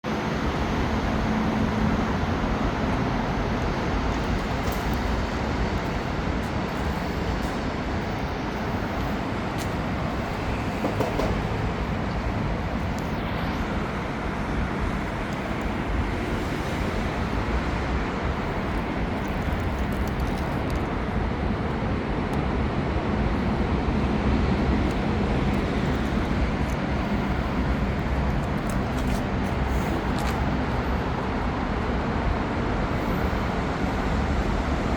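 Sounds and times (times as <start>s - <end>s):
engine and traffic rumble: 0.0s - 34.9s.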